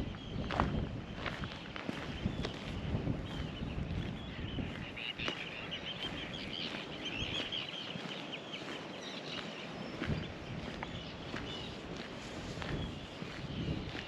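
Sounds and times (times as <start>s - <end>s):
small birds chattering: 0.0s - 14.0s
footsteps: 0.5s - 14.0s.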